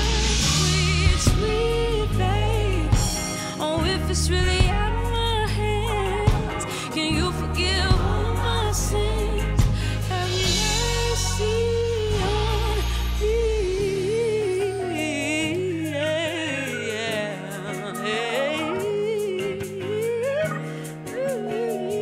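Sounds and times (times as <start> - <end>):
live band playing: 0.0 - 22.0
woman singing with vibrato: 0.0 - 22.0.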